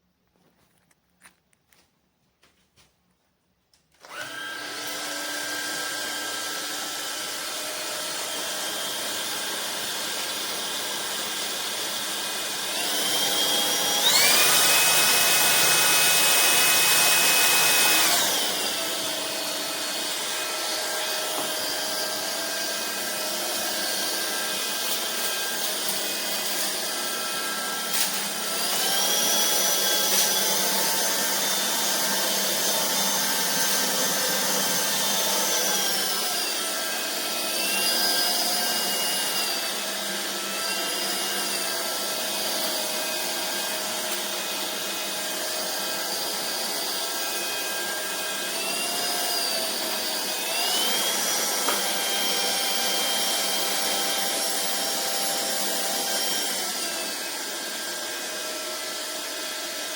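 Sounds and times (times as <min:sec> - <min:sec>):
stick vacuum motor whine: 0:03.9 - 0:59.9.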